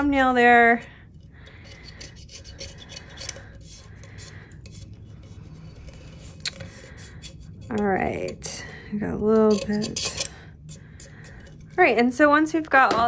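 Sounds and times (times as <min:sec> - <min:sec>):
scraping epoxy off metal: 0:01.1 - 0:12.4.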